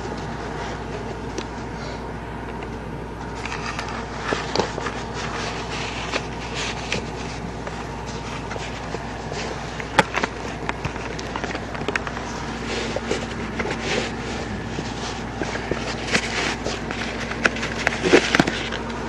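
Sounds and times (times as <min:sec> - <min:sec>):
steady background hum: 0:00.0 - 0:19.0
clicks and scrapes: 0:03.2 - 0:19.0.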